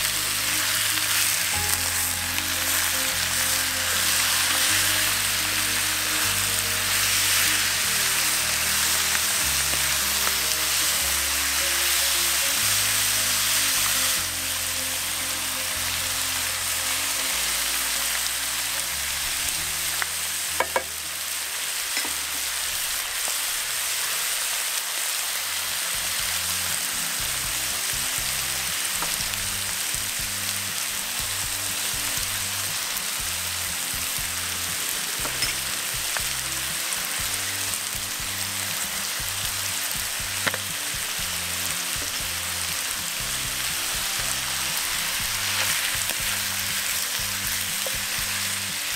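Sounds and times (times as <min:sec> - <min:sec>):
food sizzling in a pan: 0:00.0 - 0:48.9.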